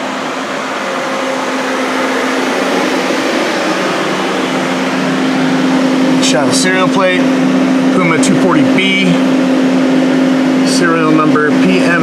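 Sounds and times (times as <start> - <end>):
machine hum and whir: 0.0 - 12.0.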